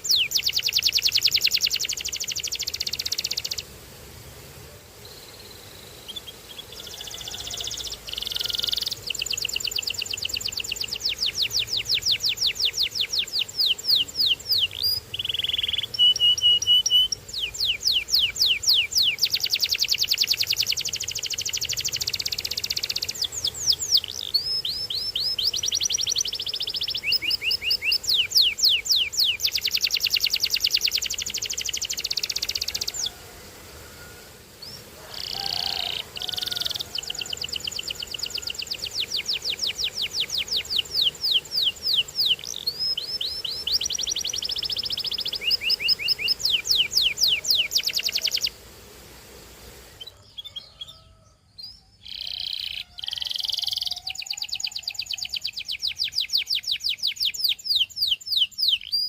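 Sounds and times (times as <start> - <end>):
canary singing trills: 0.0 - 3.7, 5.1 - 33.2, 34.6 - 48.6, 50.0 - 59.0.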